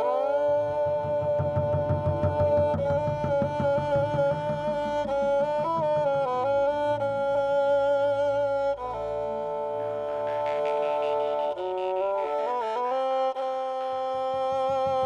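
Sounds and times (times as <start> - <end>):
bowed string ensemble melody: 0.0 - 15.0.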